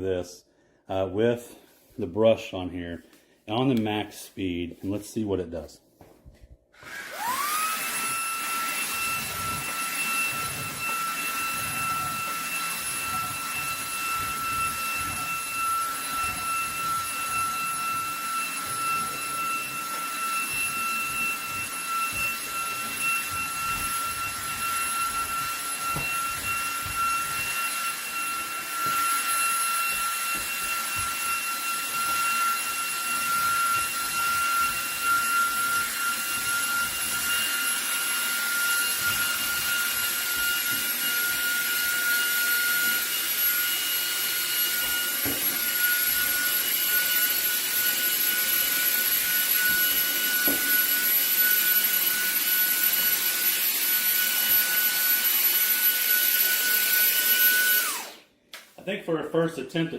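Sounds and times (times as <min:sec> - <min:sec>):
vacuum cleaner motor whine: 0:06.8 - 0:58.3.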